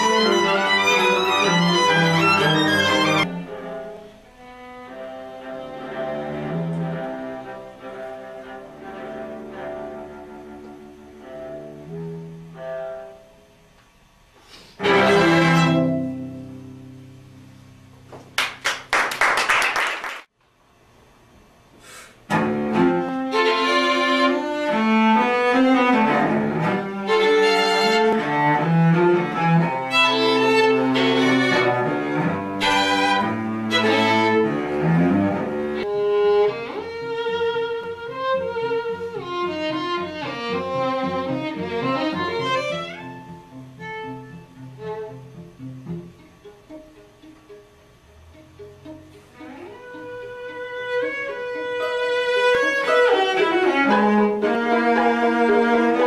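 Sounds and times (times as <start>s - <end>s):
string trio playing classical music: 0.0s - 13.5s, 14.4s - 18.3s, 22.3s - 56.0s.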